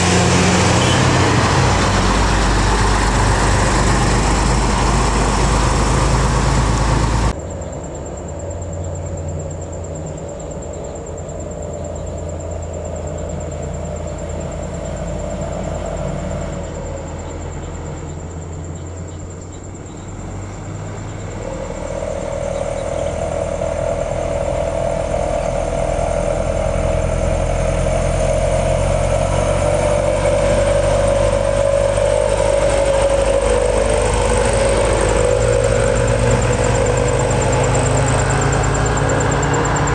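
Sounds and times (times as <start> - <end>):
diesel truck engine hum and whine: 0.0 - 39.9
heavy truck passing close: 0.0 - 39.9.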